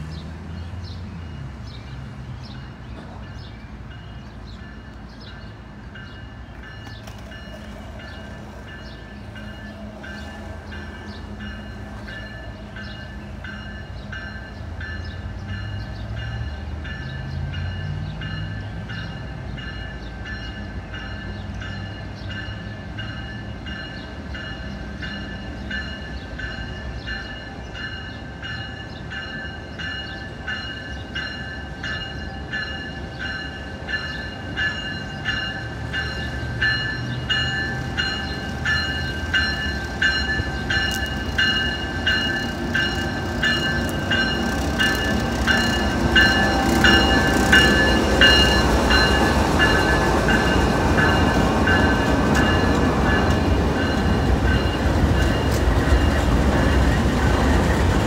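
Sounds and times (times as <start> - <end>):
diesel locomotive rumbling past: 0.0 - 58.0
locomotive bell ringing: 2.7 - 58.0.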